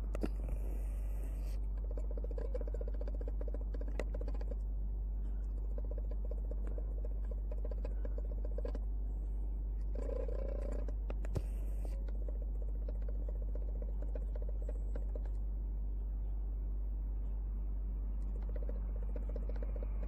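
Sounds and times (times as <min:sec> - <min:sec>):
deep rumble: 0:00.0 - 0:20.0.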